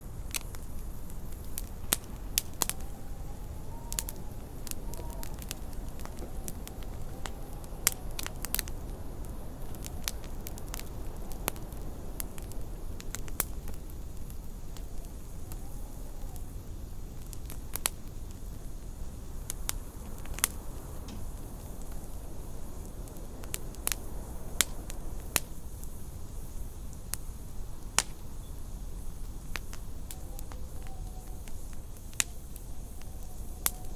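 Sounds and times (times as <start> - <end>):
wind howling: 0.0 - 33.9
wood fire crackling: 0.0 - 33.9.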